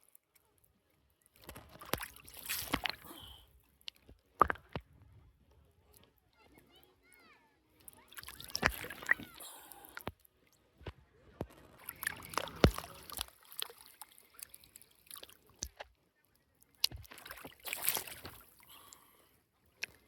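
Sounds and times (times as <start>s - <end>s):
water lapping around a boat: 1.2s - 5.1s, 5.9s - 20.0s.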